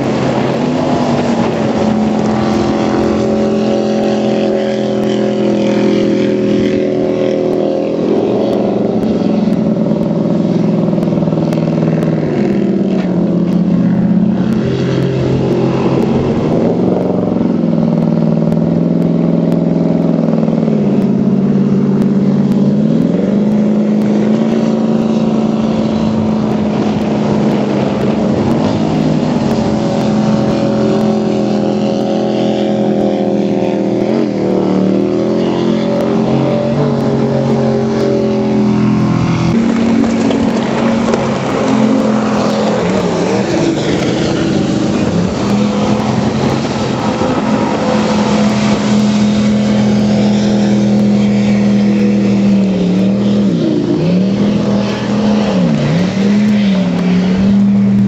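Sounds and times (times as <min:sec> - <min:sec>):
jet boat engines revving: 0:00.0 - 0:58.0.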